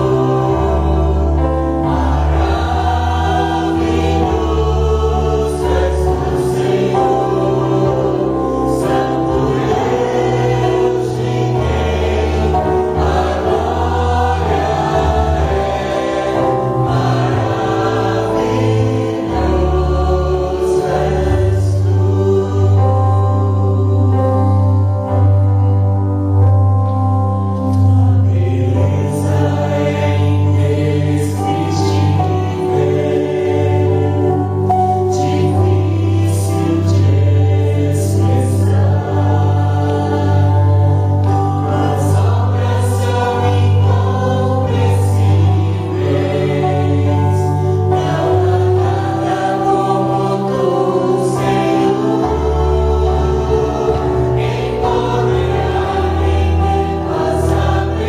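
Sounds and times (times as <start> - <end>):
congregation singing: 0.0 - 58.0.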